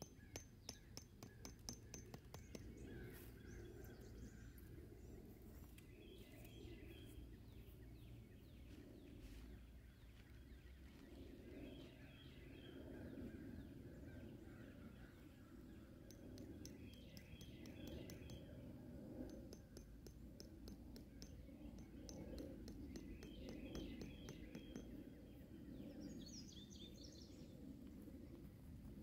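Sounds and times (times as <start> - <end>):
faint outdoor background noise: 0.0 - 29.0.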